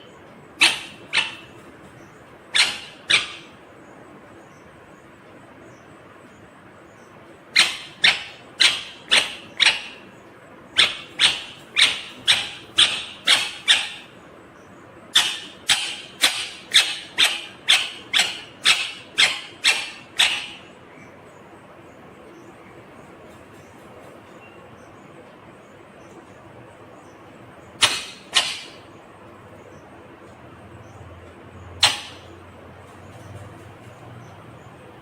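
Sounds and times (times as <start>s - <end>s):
parakeet calling: 0.0s - 5.9s, 6.8s - 26.2s, 26.8s - 35.0s.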